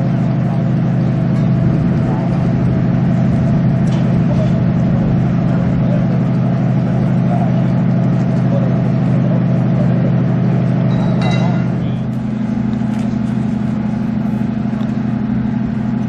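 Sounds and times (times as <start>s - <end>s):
crane engine droning: 0.0s - 16.0s.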